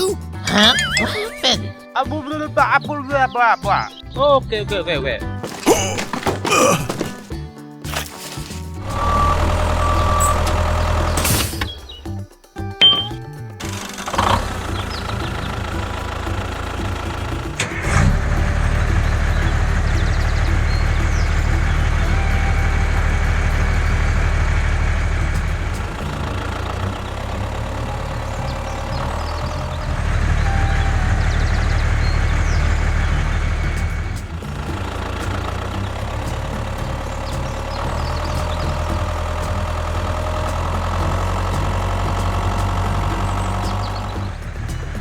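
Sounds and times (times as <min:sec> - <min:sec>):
tractor engine humming: 0:05.4 - 0:45.0.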